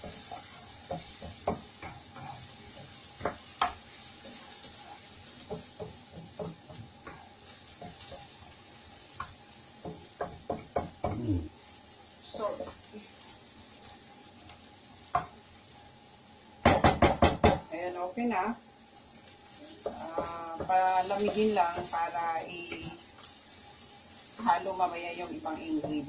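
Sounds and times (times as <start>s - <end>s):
spatula scraping wok: 0.0s - 16.0s, 19.0s - 26.0s
faint sizzle in oil: 0.0s - 26.0s.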